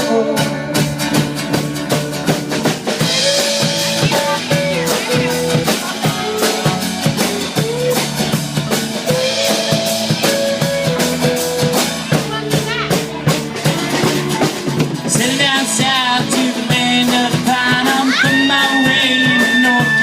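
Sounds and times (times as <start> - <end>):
drum kit beat: 0.0 - 20.0
guitar: 0.0 - 20.0
sliding lead melody: 0.0 - 20.0.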